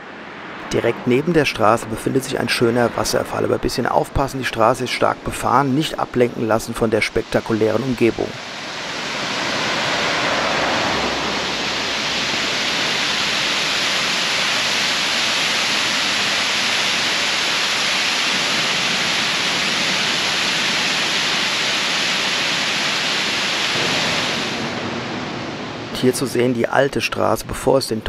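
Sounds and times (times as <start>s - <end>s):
waterfall rushing: 0.1s - 26.3s.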